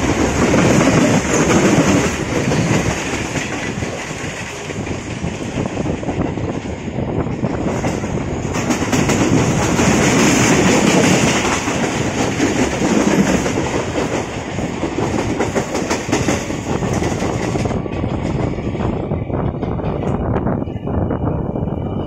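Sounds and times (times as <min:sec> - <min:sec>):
clickety-clack over rail joints: 0:00.0 - 0:20.5
train wheels rumbling on track: 0:00.0 - 0:22.0.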